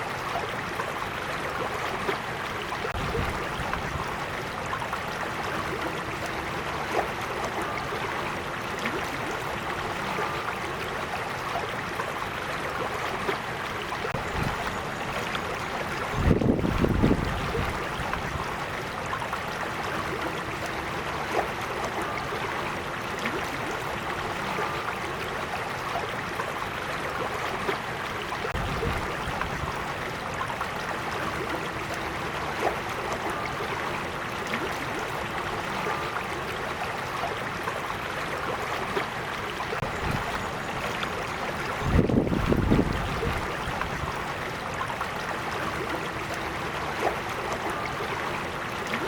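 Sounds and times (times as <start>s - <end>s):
creek water rushing: 0.0s - 49.0s.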